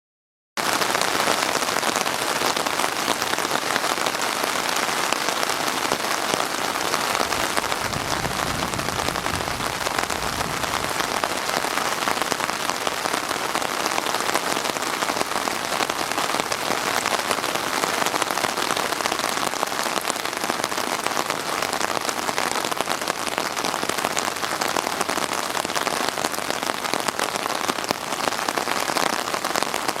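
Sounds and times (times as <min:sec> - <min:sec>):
rain falling: 0:00.6 - 0:30.0.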